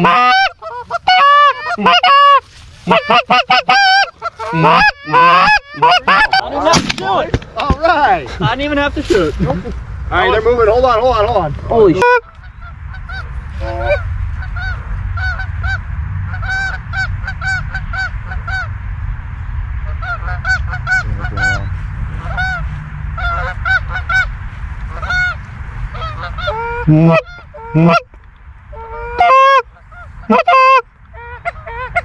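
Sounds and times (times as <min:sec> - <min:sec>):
geese honking: 0:00.0 - 0:07.2, 0:10.1 - 0:18.8, 0:19.8 - 0:32.0
low rumble: 0:00.0 - 0:32.0.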